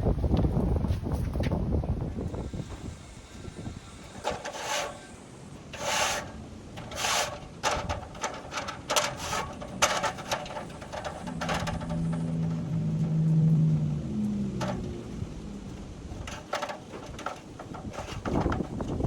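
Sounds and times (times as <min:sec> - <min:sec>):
low steady hum: 0:00.0 - 0:19.0
rasping scraping strokes: 0:02.4 - 0:19.0
sharp clicks and rattles: 0:02.7 - 0:19.0.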